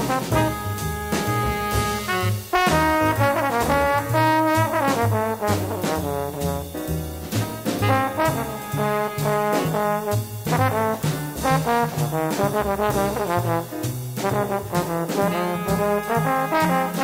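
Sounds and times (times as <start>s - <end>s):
trombone solo: 0.0s - 6.7s, 7.3s - 17.0s
jazz drums: 0.0s - 17.0s
walking bass: 0.0s - 17.0s.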